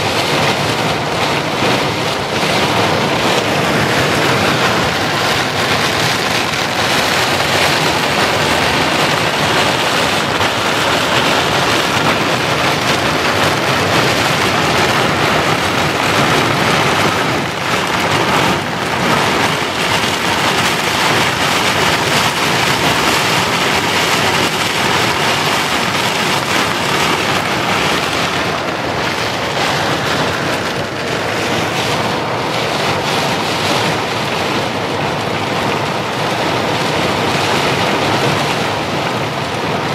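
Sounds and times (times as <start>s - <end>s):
heavy rain on car roof: 0.0s - 39.9s
strong wind: 0.0s - 39.9s.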